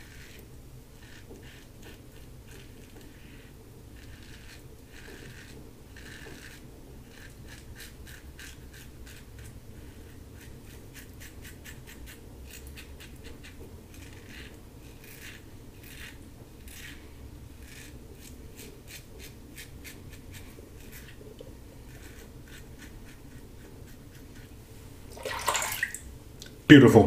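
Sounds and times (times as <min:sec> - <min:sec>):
razor scraping stubble: 0:00.0 - 0:24.6.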